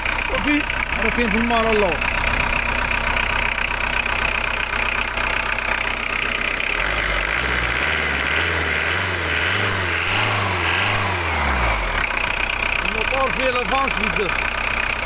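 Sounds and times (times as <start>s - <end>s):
diesel engine idling roughly: 0.0s - 15.0s.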